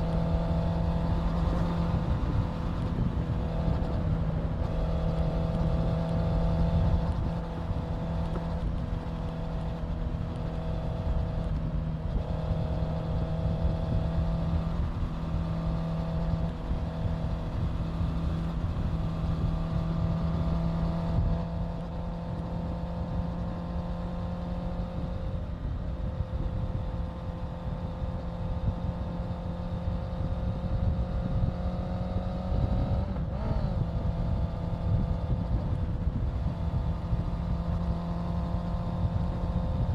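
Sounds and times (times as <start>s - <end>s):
motorcycle engine cruising: 0.0s - 39.9s
wind rumble on microphone: 0.0s - 39.9s.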